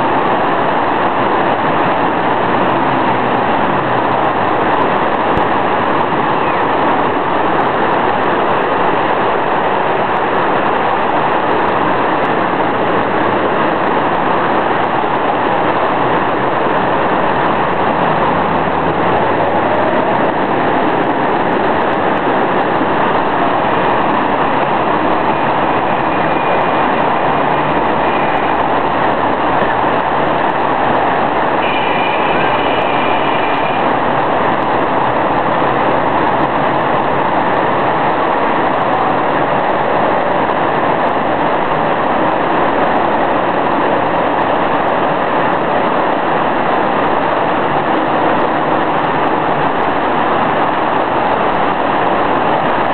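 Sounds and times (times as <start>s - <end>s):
muddy water rushing: 0.0s - 52.9s.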